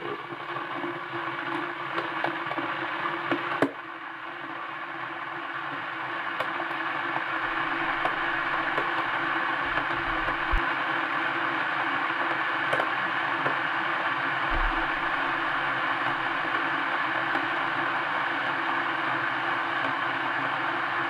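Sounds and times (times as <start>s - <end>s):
electric kettle heating water: 0.0s - 21.0s.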